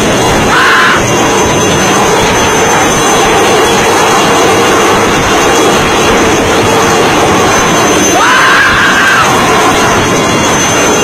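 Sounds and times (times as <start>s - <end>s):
helicopter turbine and rotor noise: 0.0s - 11.0s
thin high whine: 0.0s - 11.0s.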